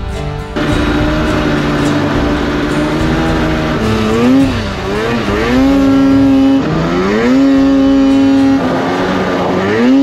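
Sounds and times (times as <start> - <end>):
snowmobile engine revving: 0.6 - 10.0.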